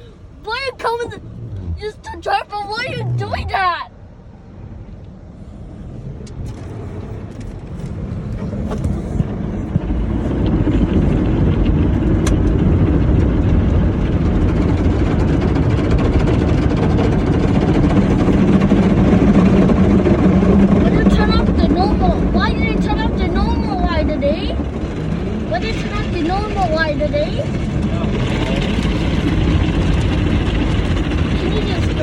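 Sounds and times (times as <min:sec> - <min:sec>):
car wash machinery: 0:00.0 - 0:03.9, 0:05.2 - 0:32.0.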